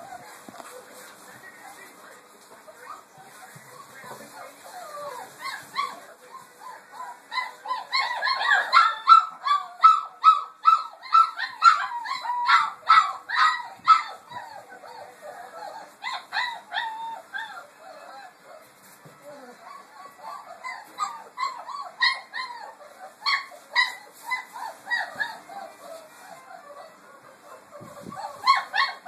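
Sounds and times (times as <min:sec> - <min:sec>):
puppy yelping and crying: 0:04.4 - 0:18.7, 0:19.3 - 0:29.0.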